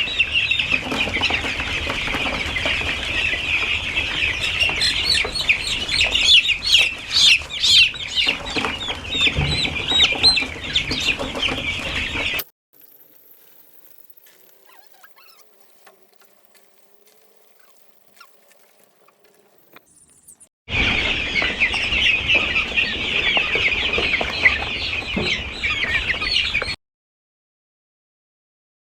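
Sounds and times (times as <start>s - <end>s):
chicks peeping: 0.0s - 12.4s, 14.2s - 26.8s.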